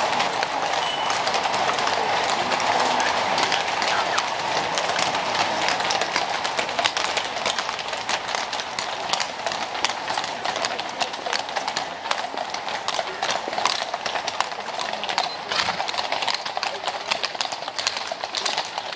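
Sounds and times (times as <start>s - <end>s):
hooves clip-clopping on brick: 0.0s - 18.9s
steady background noise: 0.0s - 18.9s.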